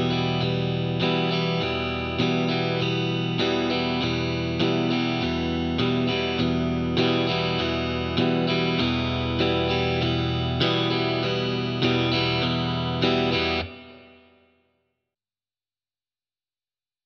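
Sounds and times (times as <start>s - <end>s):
electric guitar strumming chords: 0.0s - 14.6s.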